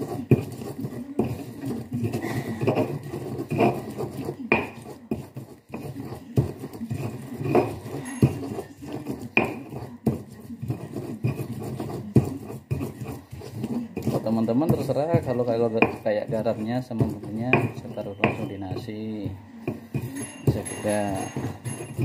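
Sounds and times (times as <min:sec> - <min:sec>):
pestle knocking in mortar: 0:00.0 - 0:22.0
stone pestle scraping in mortar: 0:00.0 - 0:22.0.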